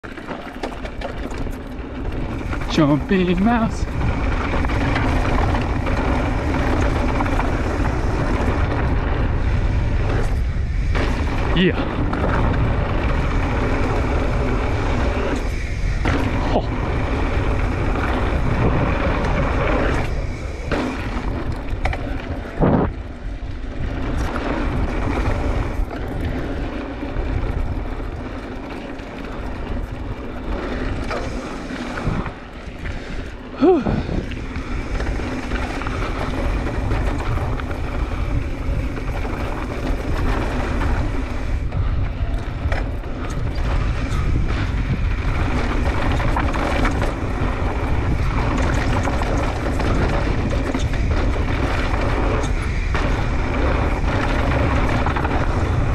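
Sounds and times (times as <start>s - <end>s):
tyres rolling over dirt: 0.0s - 55.9s
wind buffeting camera: 0.0s - 55.9s.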